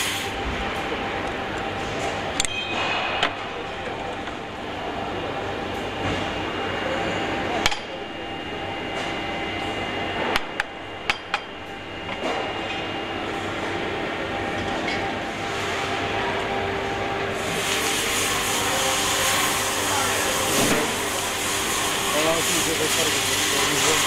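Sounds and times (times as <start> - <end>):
factory machinery noise: 0.0 - 24.0.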